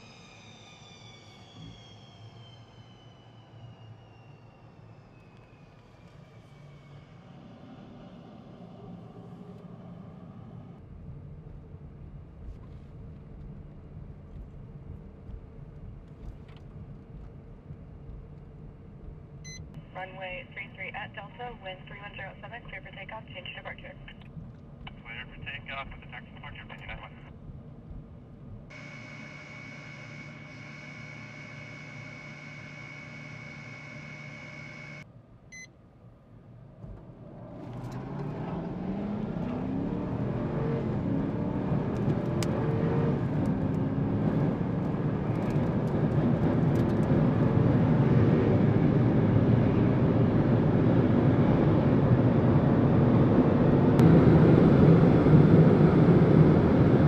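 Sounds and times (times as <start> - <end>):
jet engine whine and roar: 0.0 - 15.6, 19.4 - 28.0, 28.6 - 35.7, 36.9 - 57.0.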